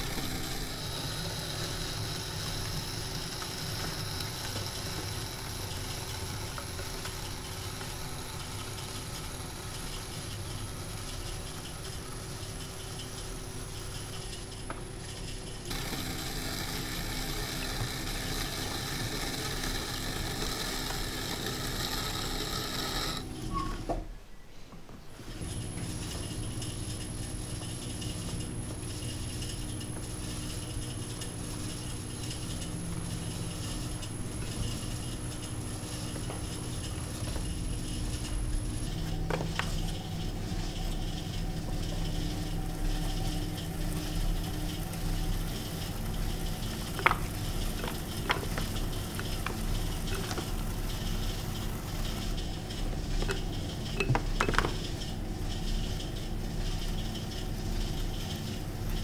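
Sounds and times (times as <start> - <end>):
potter's wheel humming: 0.0 - 24.3, 25.0 - 59.0.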